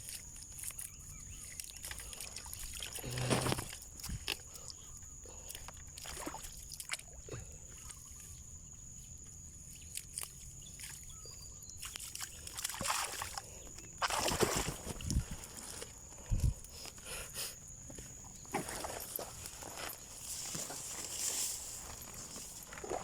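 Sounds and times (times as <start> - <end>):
shallow water sloshing and splashing: 0.0 - 16.2, 18.4 - 23.0.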